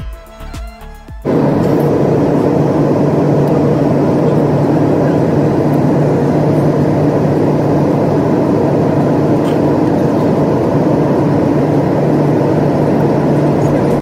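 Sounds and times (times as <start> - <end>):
vehicle rumble: 1.3 - 14.0.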